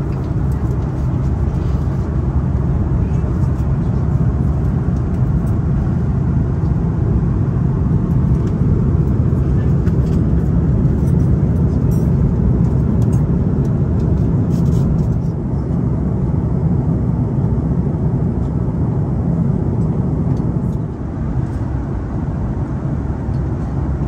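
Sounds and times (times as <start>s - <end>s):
airplane cabin rumble: 0.0s - 24.0s.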